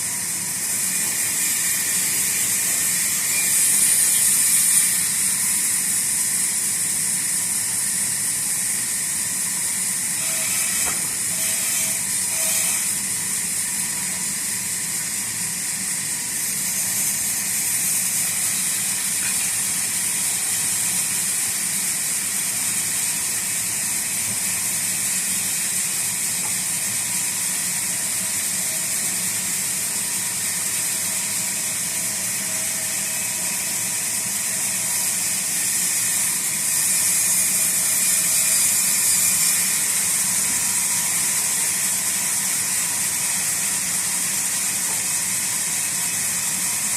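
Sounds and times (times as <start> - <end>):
sawmill hiss and whine: 0.0 - 46.9.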